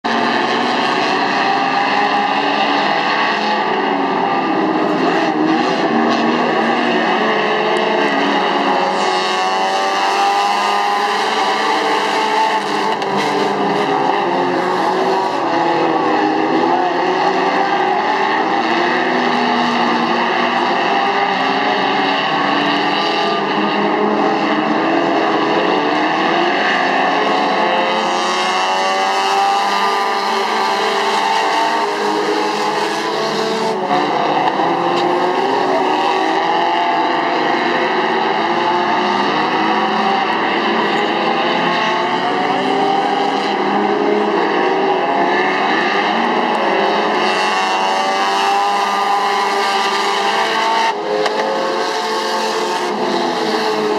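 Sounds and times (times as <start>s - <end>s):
race car engines racing: 0.0s - 53.9s.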